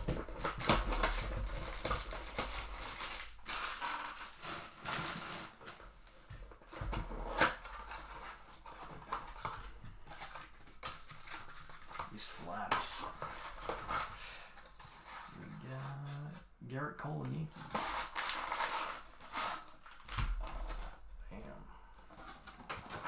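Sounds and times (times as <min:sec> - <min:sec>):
cardboard box and wrapper tearing: 0:00.0 - 0:16.1, 0:17.6 - 0:23.0
wrapper rustling and crinkling: 0:00.0 - 0:16.3, 0:17.5 - 0:23.0.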